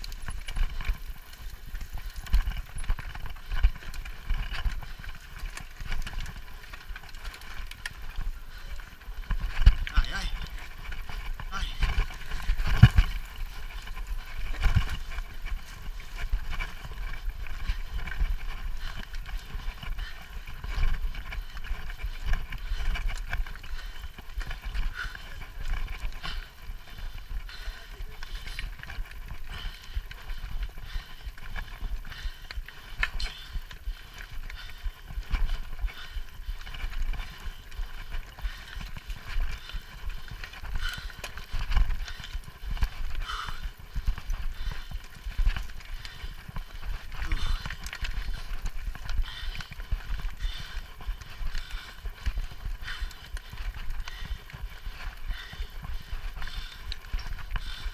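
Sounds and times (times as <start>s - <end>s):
bike tyres and frame rattling over rocks: 0.0s - 57.9s
steady low rumble: 0.0s - 57.9s.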